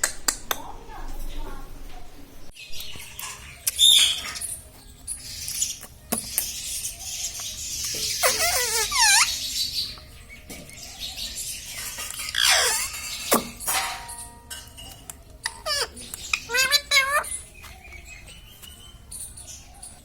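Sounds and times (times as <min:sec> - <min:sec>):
parrot chirping and calling: 0:02.6 - 0:20.0.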